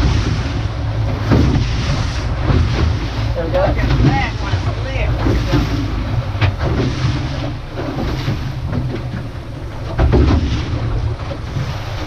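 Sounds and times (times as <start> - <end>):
boat engine running: 0.0 - 12.0
rushing water: 0.0 - 12.0
wind buffeting microphone: 0.0 - 12.0.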